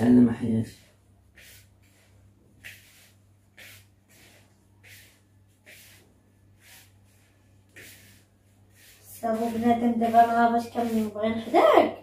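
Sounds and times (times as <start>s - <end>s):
hand swishing dough in plastic bowl: 0.6s - 12.0s.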